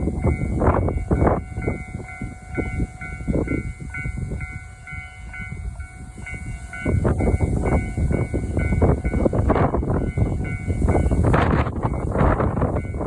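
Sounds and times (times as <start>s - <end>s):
level-crossing alarm ringing: 0.0s - 13.0s
train rumbling past: 0.0s - 13.0s.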